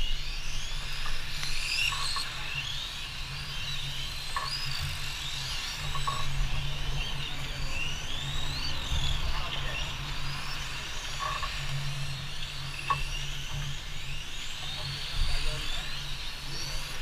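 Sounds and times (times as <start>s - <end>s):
electric model car motors whining: 0.0s - 17.0s
steady low hum: 0.0s - 17.0s.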